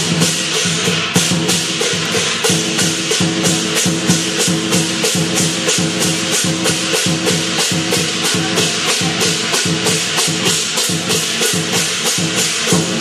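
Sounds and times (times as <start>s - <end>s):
cymbals clashing: 0.0s - 13.0s
drum beating: 0.0s - 13.0s.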